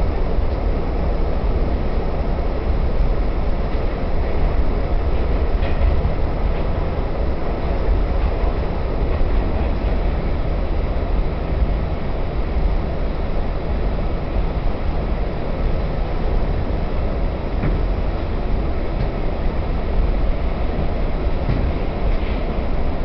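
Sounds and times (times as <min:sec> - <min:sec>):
subway wheels rumbling on rails: 0:00.0 - 0:23.0.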